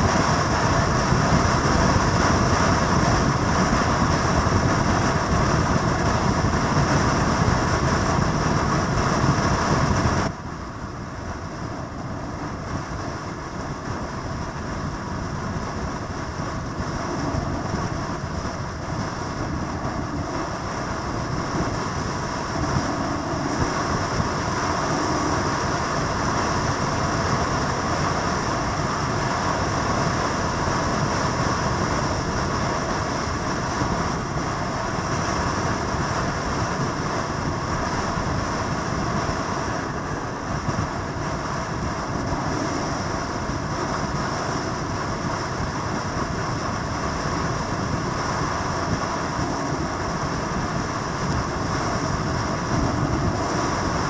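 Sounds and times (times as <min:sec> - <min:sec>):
vehicle noise: 0:00.0 - 0:54.0.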